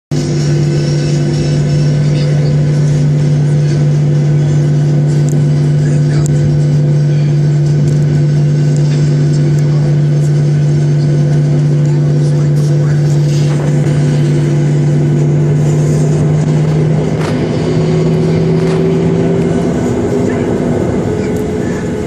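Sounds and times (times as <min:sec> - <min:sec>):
jet engines idling: 0:00.1 - 0:22.0.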